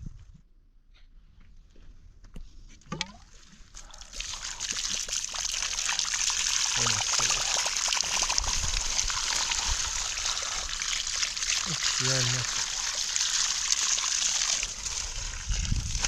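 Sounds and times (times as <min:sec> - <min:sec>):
water trickling and splashing: 0:03.0 - 0:16.0.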